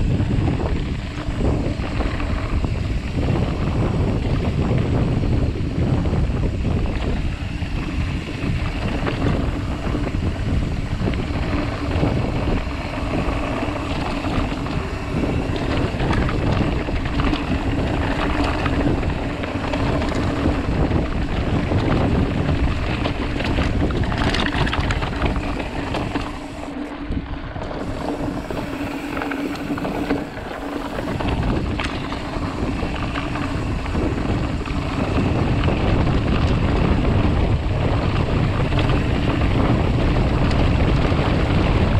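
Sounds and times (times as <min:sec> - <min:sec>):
bike tyres rumbling over stones: 0:00.0 - 0:41.9
steady hum: 0:00.0 - 0:41.9
wind buffeting microphone: 0:00.0 - 0:41.9.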